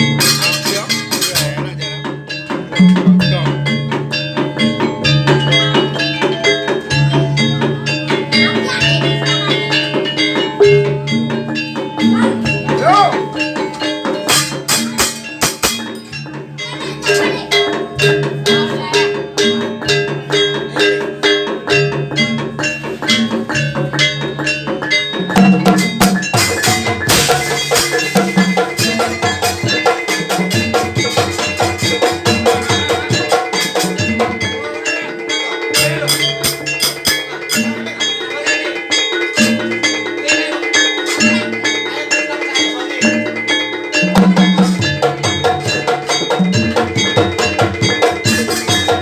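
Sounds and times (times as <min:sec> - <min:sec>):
low notes and drums: 0:00.0 - 0:38.2, 0:43.0 - 0:49.0
metal percussion strikes: 0:00.0 - 0:49.0.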